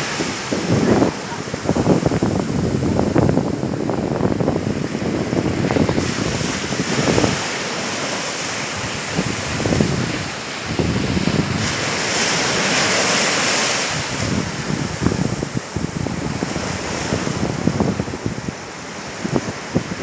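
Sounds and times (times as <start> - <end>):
waves washing onto a beach: 0.0 - 20.0
wind buffeting microphone: 0.0 - 20.0.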